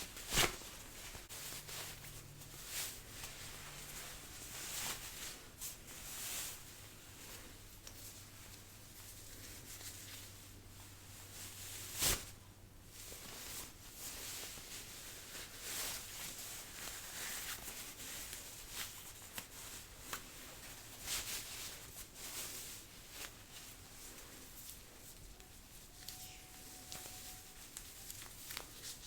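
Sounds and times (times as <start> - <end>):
jacket fabric rustling: 0.0 - 29.0.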